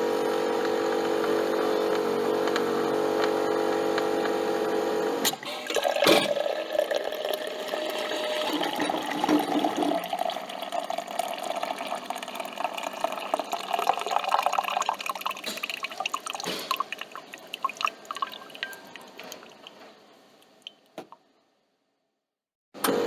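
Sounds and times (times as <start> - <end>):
coffee machine dispensing coffee: 0.0 - 19.6, 22.8 - 23.0.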